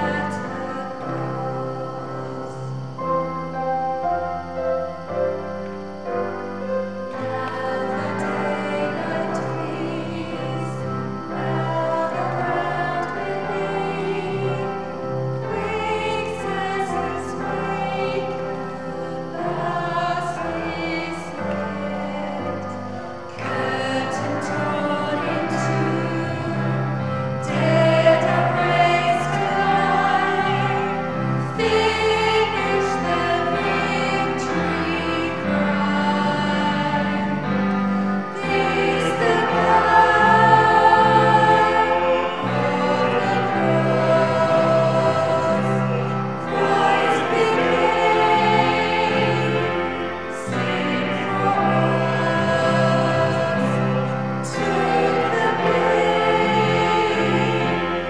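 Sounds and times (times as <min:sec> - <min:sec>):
choir singing held chords: 0:00.0 - 0:58.0.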